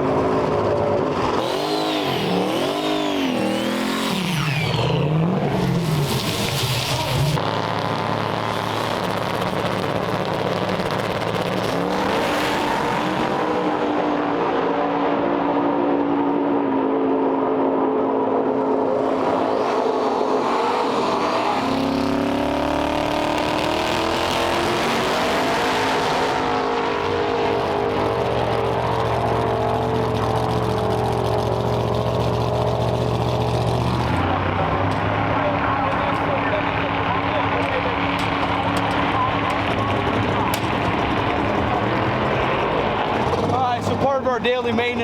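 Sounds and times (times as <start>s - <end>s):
car engine running: 0.0s - 15.6s, 17.3s - 45.0s
road and wind noise: 0.0s - 45.0s.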